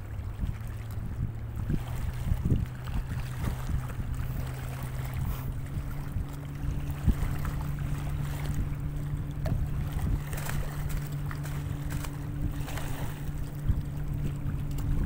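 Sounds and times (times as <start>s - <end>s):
boat engine humming: 0.0s - 15.0s
wind on microphone: 0.0s - 15.0s.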